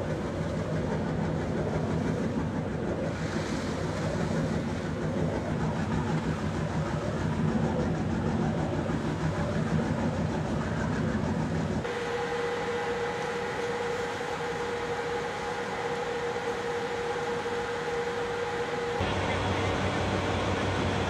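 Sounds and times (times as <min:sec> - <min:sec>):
boat engine running: 0:00.0 - 0:21.0
steady whine: 0:00.0 - 0:21.0.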